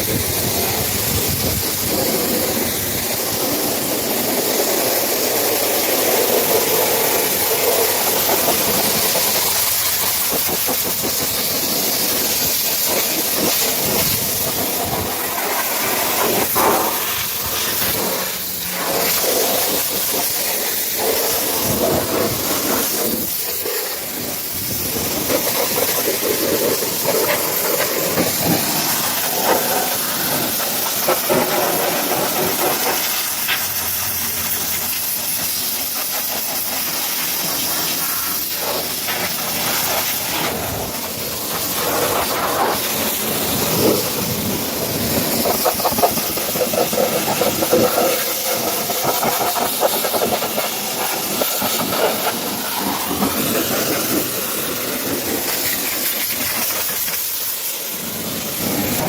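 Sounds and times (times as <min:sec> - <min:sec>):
pressure washer spraying water: 0:00.0 - 0:59.0.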